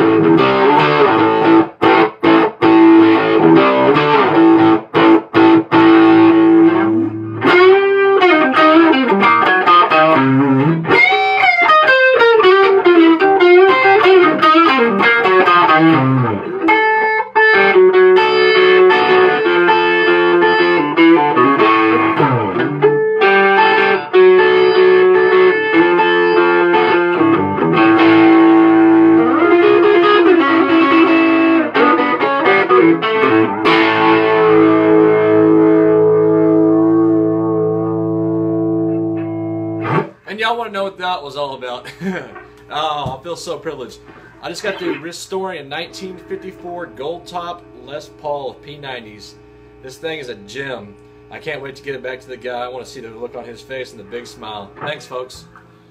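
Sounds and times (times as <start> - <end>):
overdriven electric guitar blues lead: 0.0 - 40.3, 42.1 - 51.4, 53.1 - 55.9.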